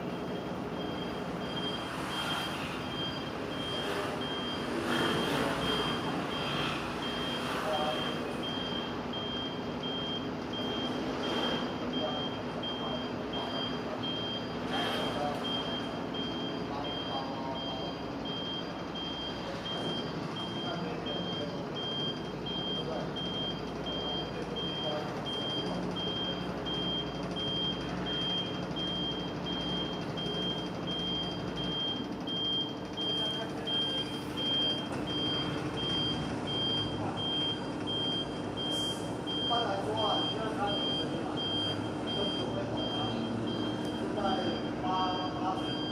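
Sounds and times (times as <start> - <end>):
washing machine running: 0.0 - 45.9
high electronic beep: 0.8 - 45.9.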